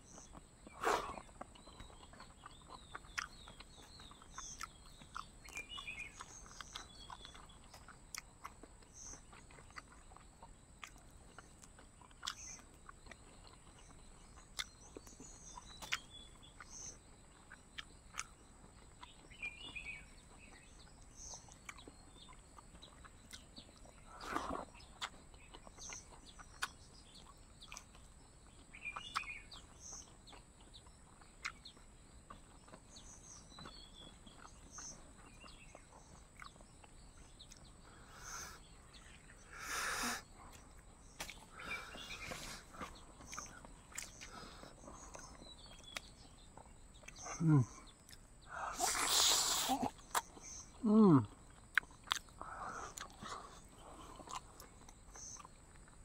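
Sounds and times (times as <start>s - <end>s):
birds chirping: 0.0s - 56.0s
person chewing food: 0.0s - 56.0s.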